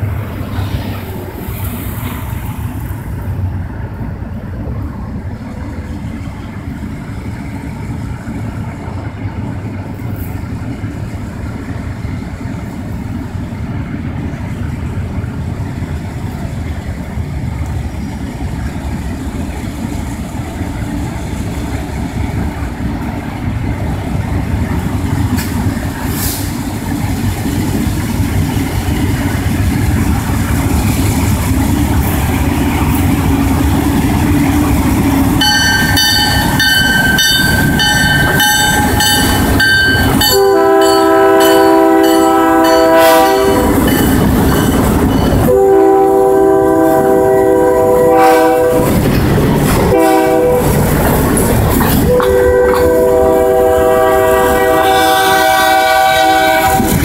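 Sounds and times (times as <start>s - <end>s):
diesel locomotive engines rumbling: 0.0s - 57.0s.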